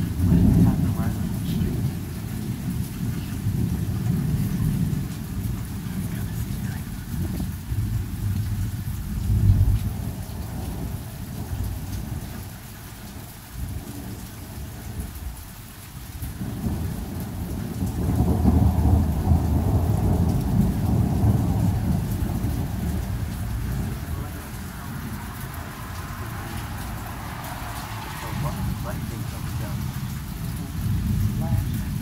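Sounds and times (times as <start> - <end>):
steady rain: 0.0 - 32.0
thunder rumbling: 0.0 - 32.0.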